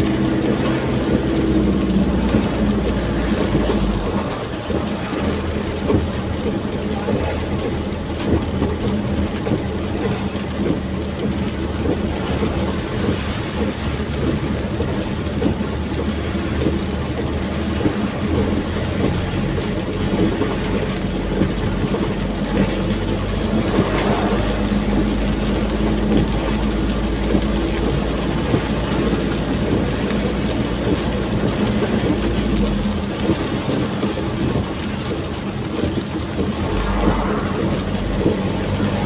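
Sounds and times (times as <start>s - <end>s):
diesel truck engine running: 0.0s - 39.0s
heavy rain hissing: 0.0s - 39.0s
tyres on wet road: 0.0s - 39.0s.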